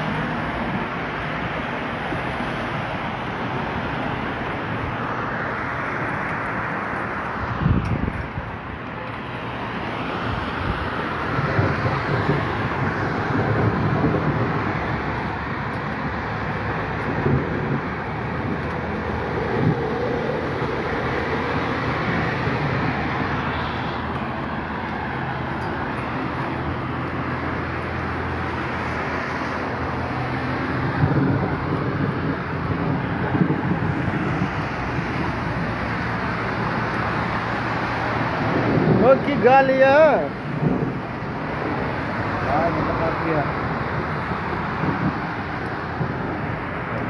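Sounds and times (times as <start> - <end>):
heavy rain on pavement: 0.0 - 47.0.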